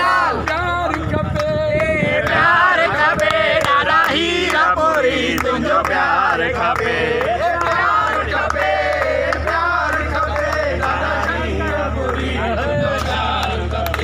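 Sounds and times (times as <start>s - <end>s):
men chanting and singing: 0.0s - 14.0s.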